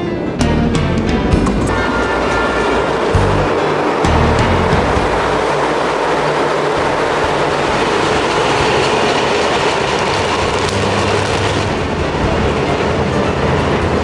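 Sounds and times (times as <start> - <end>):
train wheels rolling on rail: 1.0 - 14.0.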